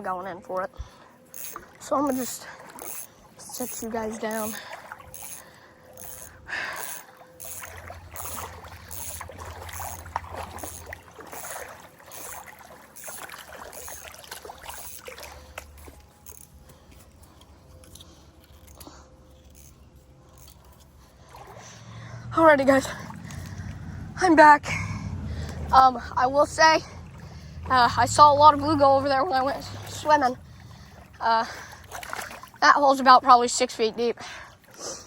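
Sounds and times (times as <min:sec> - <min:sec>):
low steady hum: 0:00.0 - 0:35.0
water splashing while wading: 0:00.0 - 0:35.0.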